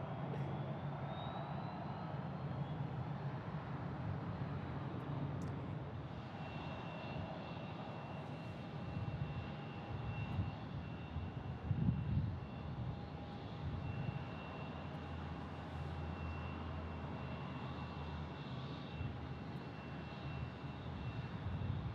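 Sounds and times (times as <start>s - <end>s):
jet engines rumbling and whining: 0.0s - 21.9s.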